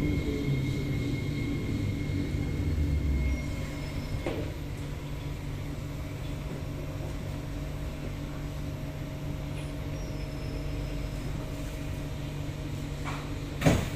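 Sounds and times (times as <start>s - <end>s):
metro car hum and rumble: 0.0s - 13.9s.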